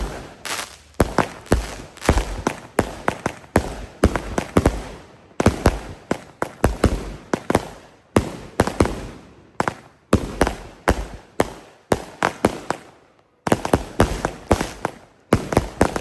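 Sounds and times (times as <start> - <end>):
firework cake sharp bangs: 0.0 - 16.0.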